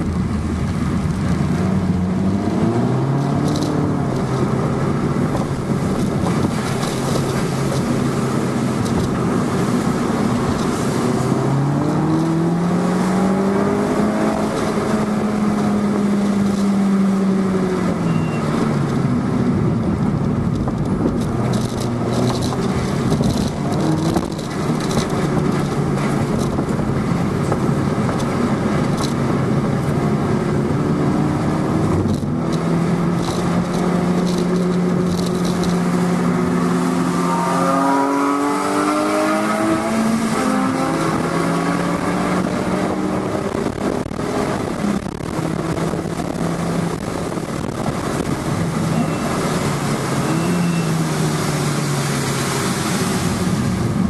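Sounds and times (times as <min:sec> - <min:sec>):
car engine revving in cabin: 0:00.0 - 0:53.9.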